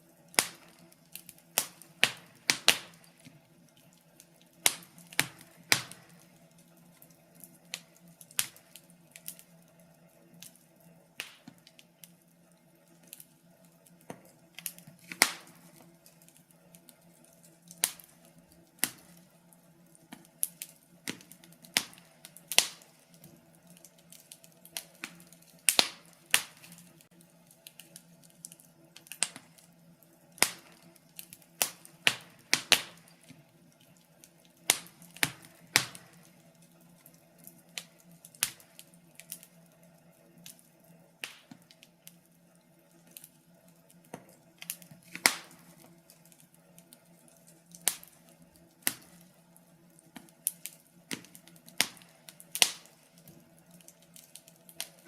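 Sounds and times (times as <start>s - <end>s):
fire pops and snaps: 0.1s - 55.0s.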